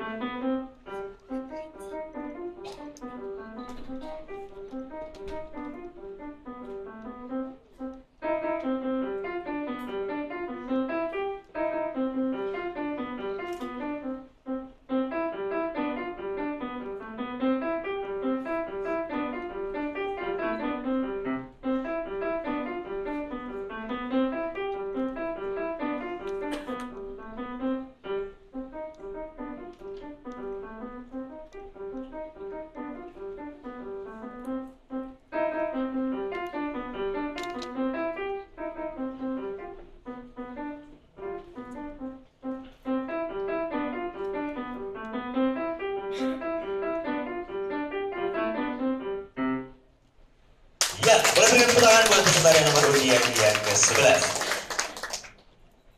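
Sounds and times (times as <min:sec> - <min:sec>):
grand piano quick notes: 0:00.0 - 0:49.8, 0:50.8 - 0:55.3.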